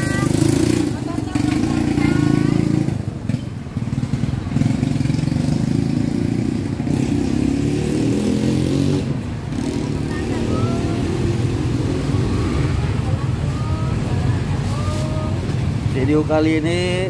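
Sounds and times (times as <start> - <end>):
motorcycles and cars driving past: 0.0 - 17.0.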